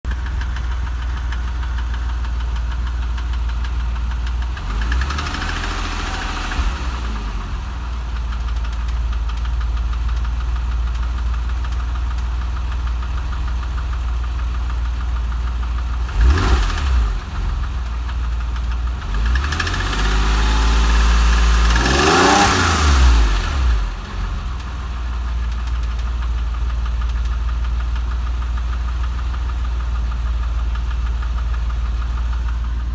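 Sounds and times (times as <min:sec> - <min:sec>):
car engine idling and revving: 0:00.0 - 0:32.9
engine ticking: 0:00.0 - 0:32.9.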